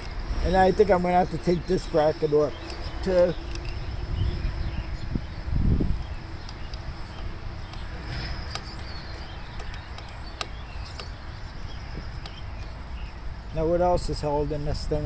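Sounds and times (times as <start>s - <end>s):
bird chirping: 0.0s - 15.0s
low steady rumble: 0.0s - 15.0s.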